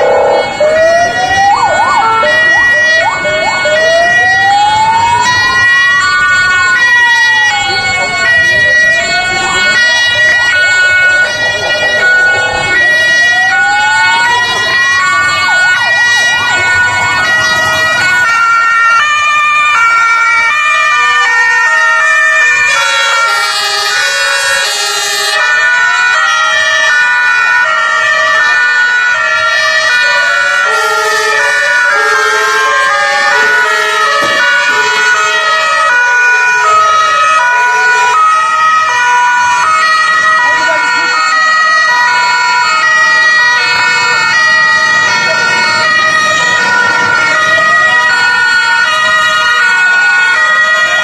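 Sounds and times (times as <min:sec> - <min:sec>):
two-tone emergency sirens: 0:00.0 - 0:51.0
wailing siren: 0:00.0 - 0:51.0.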